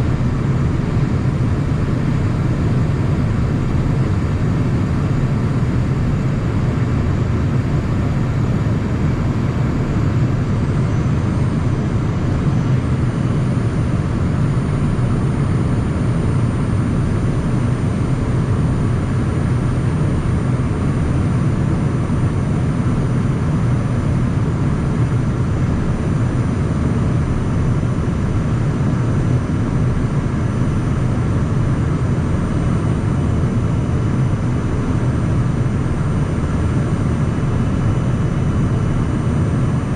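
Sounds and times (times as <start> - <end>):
jet cockpit engine and airflow: 0.0 - 39.9.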